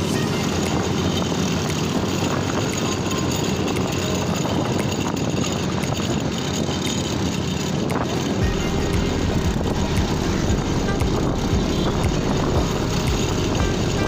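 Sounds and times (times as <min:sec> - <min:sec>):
motorcycle engine drone: 0:00.0 - 0:14.0
wind rushing over microphone: 0:00.0 - 0:14.0.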